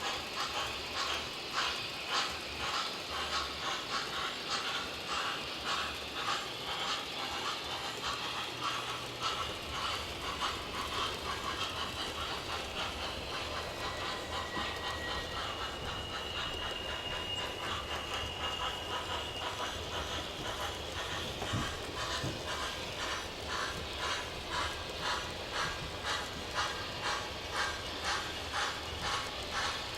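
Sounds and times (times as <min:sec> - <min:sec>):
model steam locomotive chuffing: 0:00.0 - 0:29.9
model train running on track: 0:00.0 - 0:29.9.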